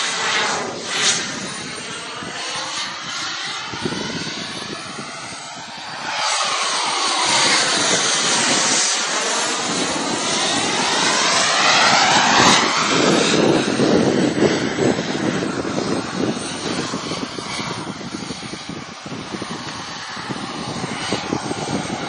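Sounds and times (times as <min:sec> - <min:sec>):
fighter jet passing overhead: 0:00.0 - 0:22.0.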